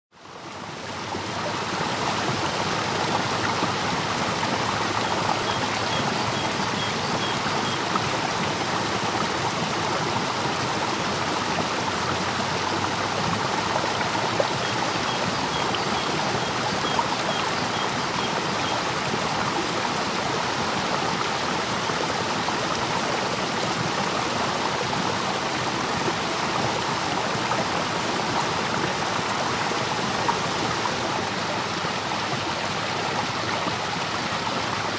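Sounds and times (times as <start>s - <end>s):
river rushing over rapids: 0.4s - 34.9s.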